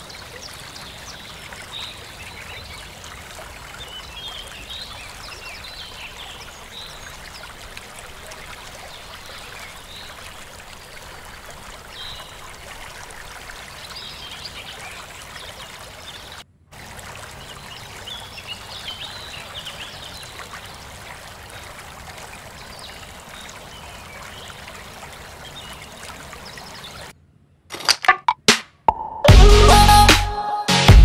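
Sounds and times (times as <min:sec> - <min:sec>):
water trickling: 0:00.0 - 0:27.1.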